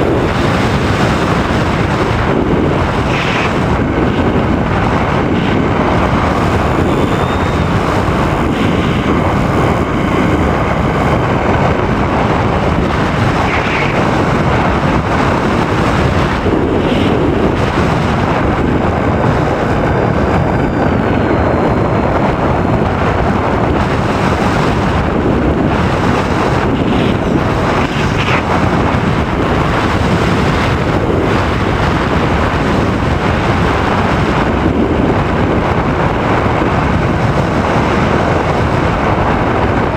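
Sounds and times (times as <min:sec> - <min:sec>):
air rushing over microphone: 0:00.0 - 0:39.9.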